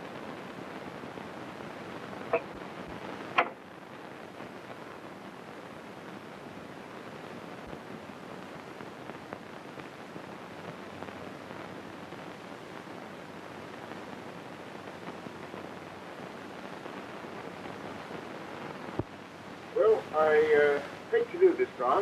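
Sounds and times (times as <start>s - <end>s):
faint crackles: 0.0s - 22.0s
film soundtrack hiss: 0.0s - 22.0s.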